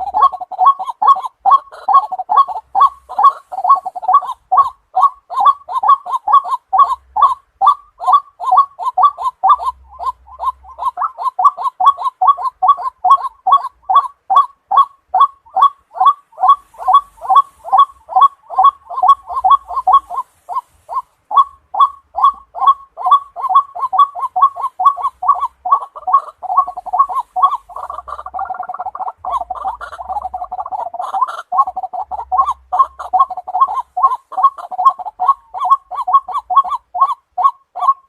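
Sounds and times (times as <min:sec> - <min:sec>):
waterhen croaking calls: 0:00.0 - 0:38.0.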